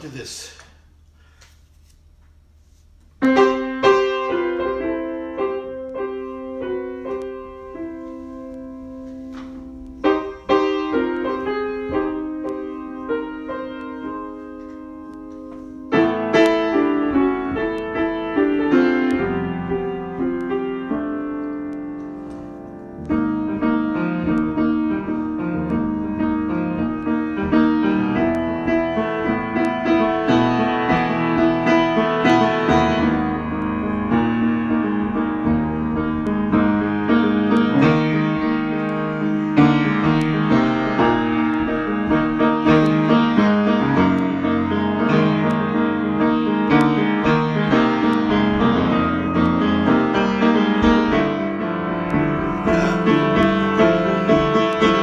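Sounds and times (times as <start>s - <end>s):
piano improvisation: 3.2s - 55.0s.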